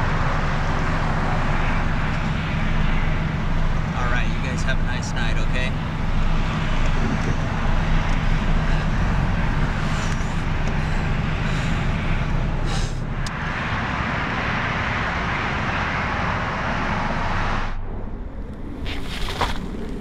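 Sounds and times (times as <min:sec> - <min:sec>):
car engine idling: 0:00.0 - 0:18.0
steady outdoor hiss: 0:00.0 - 0:19.9.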